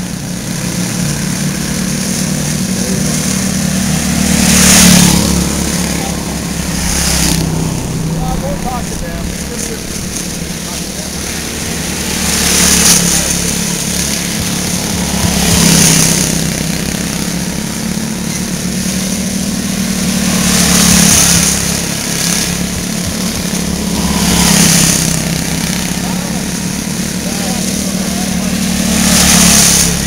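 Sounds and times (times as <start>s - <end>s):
small race car engine passing: 0.0s - 30.0s.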